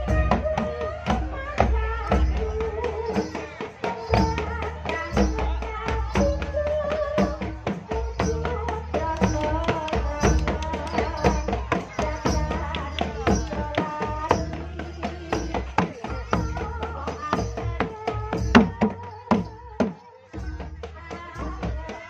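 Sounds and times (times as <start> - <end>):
wavering gamelan melody: 0.0 - 19.5
rapid hand drum strokes: 0.0 - 22.0.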